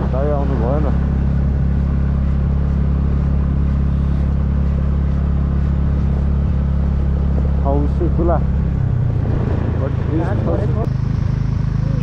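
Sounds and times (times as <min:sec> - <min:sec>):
motorcycle engine droning: 0:00.0 - 0:12.0.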